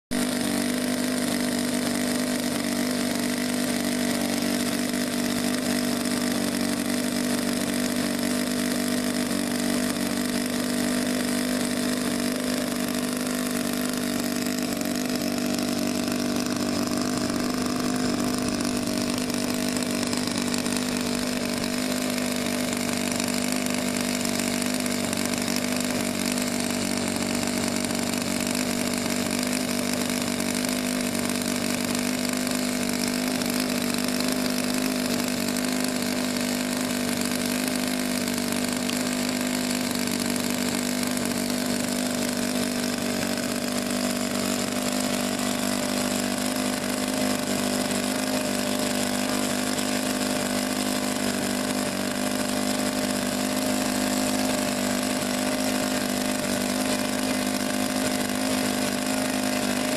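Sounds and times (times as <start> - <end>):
model airplane engine running: 0.1 - 59.9.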